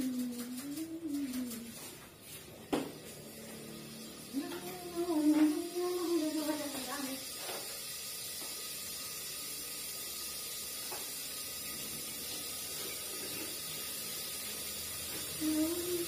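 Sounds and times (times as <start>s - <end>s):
meat sizzling in hot oil: 3.0s - 16.0s.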